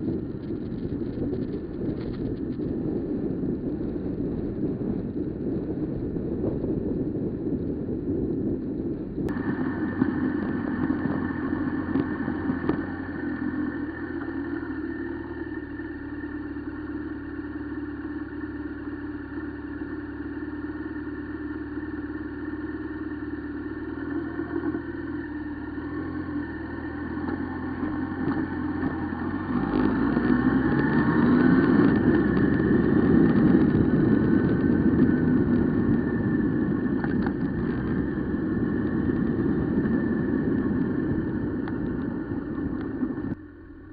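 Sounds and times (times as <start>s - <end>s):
motorcycle engine: 0.0s - 43.9s
wind noise: 0.0s - 43.9s.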